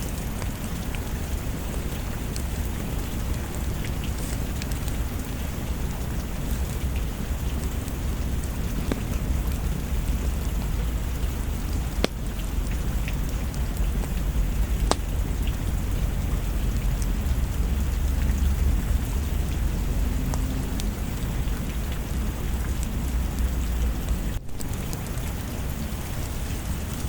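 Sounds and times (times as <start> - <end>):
low rumble: 0.0 - 24.8
log fire crackling: 0.0 - 27.0
steady rain: 0.0 - 27.0.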